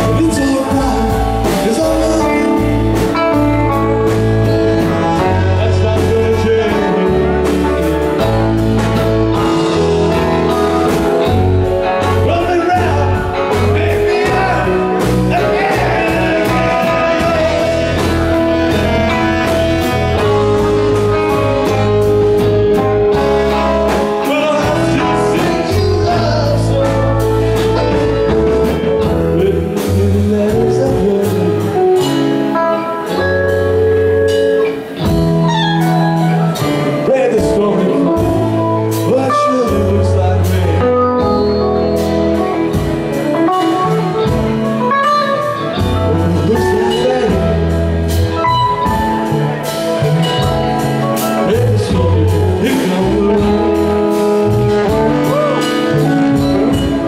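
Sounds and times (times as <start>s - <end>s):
man singing: 0.0s - 33.2s, 36.5s - 42.8s, 43.6s - 57.0s
live rock band playing: 0.0s - 57.0s.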